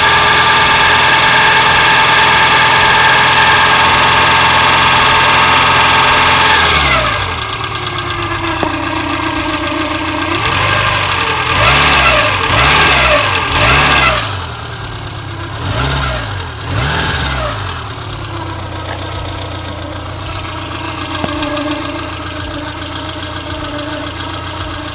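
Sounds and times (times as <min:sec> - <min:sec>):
car engine revving with whistle: 0:00.0 - 0:24.9.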